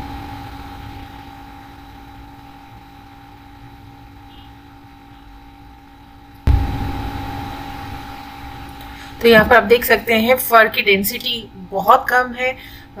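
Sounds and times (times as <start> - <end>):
machine hum and rumble: 0.0 - 13.0.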